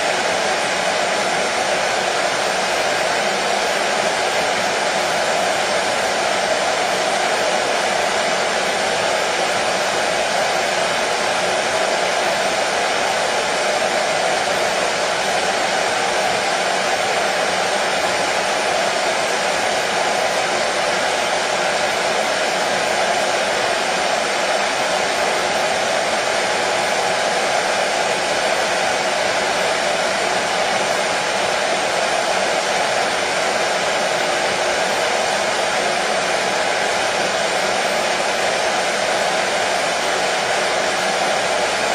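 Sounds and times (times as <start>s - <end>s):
hair dryer blowing: 0.0s - 41.9s.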